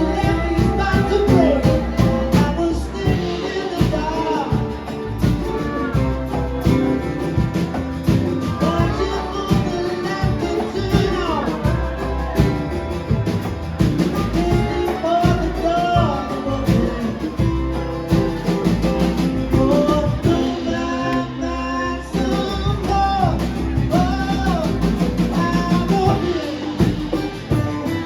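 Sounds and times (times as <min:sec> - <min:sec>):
drum kit: 0:00.0 - 0:21.4, 0:22.1 - 0:28.0
guitar: 0:00.0 - 0:28.0
person singing: 0:00.0 - 0:28.0.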